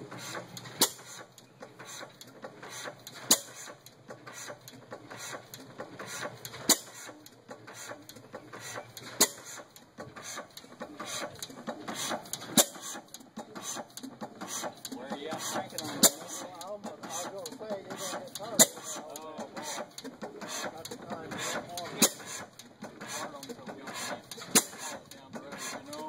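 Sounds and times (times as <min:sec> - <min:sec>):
light mechanical clatter: 0:00.0 - 0:26.0.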